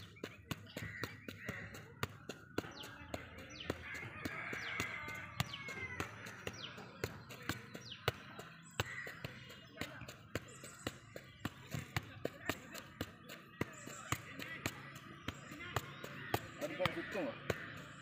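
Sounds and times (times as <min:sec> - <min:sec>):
football thudding on feet: 0:00.0 - 0:17.7
birds calling: 0:00.0 - 0:18.0.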